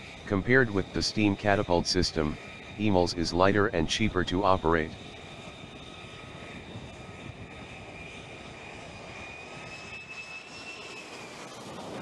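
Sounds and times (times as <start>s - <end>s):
jet engine high whine: 0.0s - 12.0s
jet engine roar: 0.0s - 12.0s.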